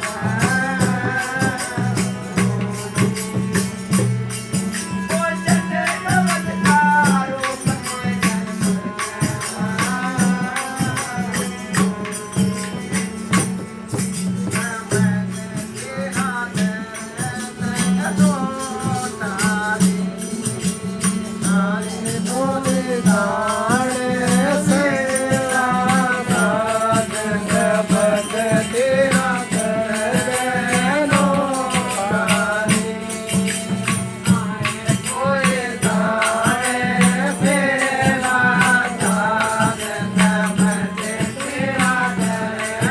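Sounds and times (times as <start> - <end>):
fast percussion: 0.0 - 42.9.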